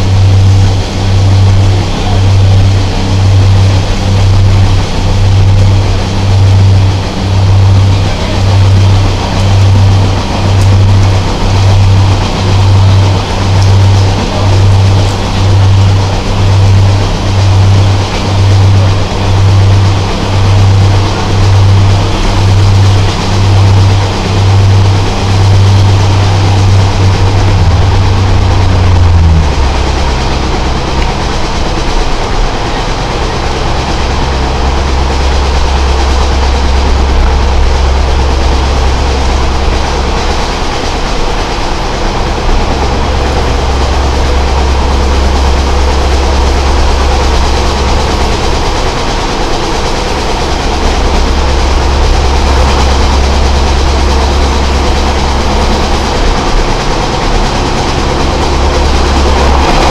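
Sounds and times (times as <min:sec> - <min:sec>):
diesel engine throbbing: 0:00.0 - 0:59.9
train running noise: 0:00.0 - 0:59.9.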